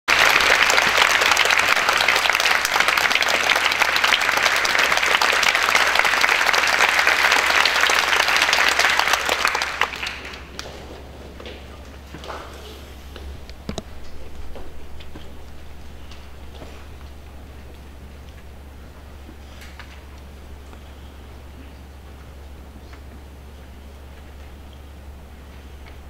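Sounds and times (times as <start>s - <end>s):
audience applauding: 0.0s - 21.6s.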